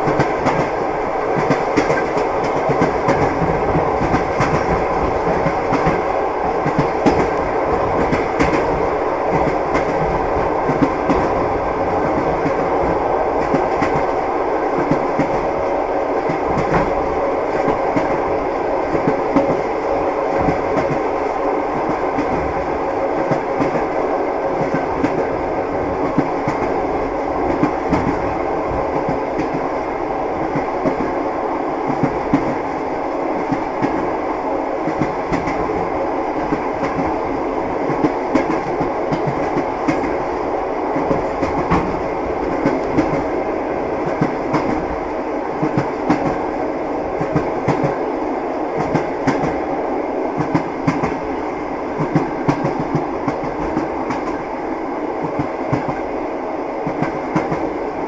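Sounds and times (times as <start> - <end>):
train wheels clacking on rails: 0.0 - 31.2, 31.8 - 49.7, 50.3 - 56.2, 56.8 - 58.0
train rumble: 0.0 - 58.0.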